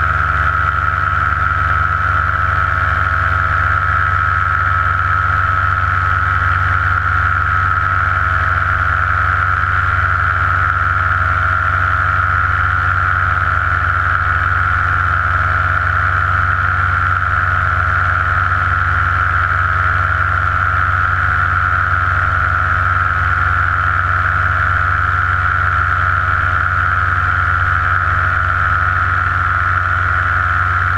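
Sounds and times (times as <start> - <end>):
paramotor engine and propeller: 0.0 - 30.9.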